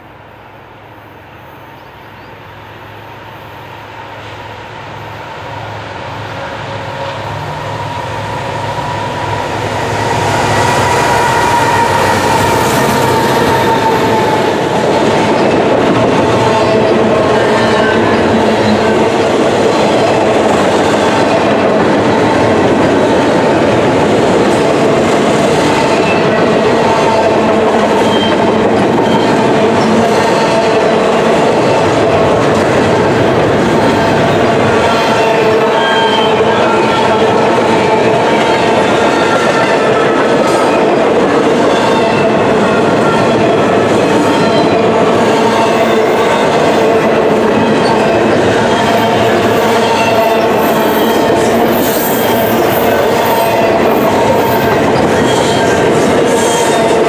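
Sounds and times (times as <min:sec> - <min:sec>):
diesel locomotives passing: 0:00.0 - 0:57.0
freight cars wheel-on-rail noise: 0:00.0 - 0:57.0.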